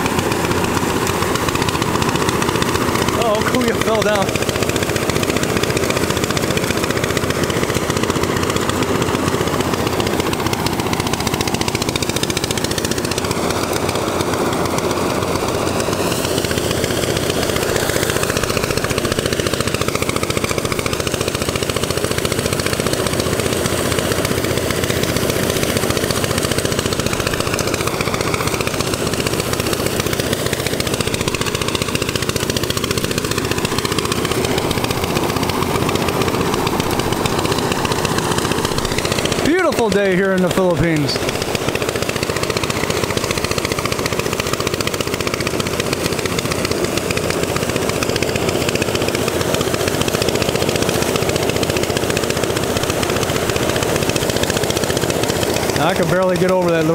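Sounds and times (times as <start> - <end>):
rice thresher rattling: 0.0 - 56.9.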